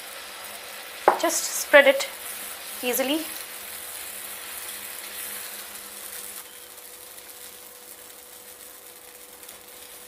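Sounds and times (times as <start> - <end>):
batter sizzling on a hot pan: 0.0 - 10.0.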